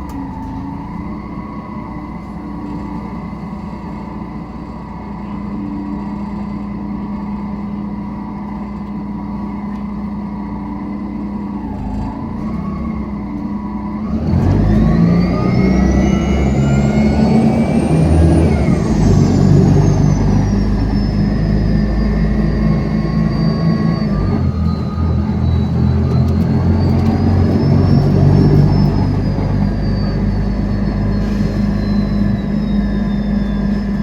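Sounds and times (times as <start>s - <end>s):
bus engine accelerating: 0.0s - 34.0s
engine whine: 0.0s - 34.0s.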